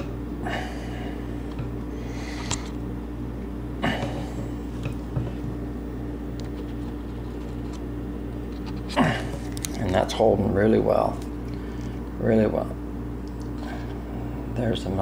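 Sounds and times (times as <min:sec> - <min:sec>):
low hum with pulsing: 0:00.0 - 0:15.0.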